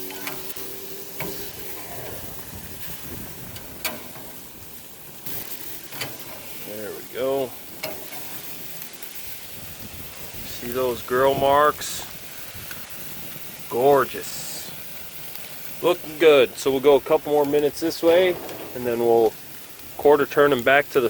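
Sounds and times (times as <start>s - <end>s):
steaks sizzling on a grill: 0.0s - 21.0s.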